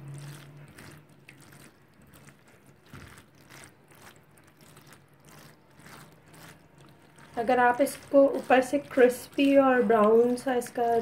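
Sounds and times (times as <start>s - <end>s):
spatula stirring cheesy pasta: 0.0s - 11.0s.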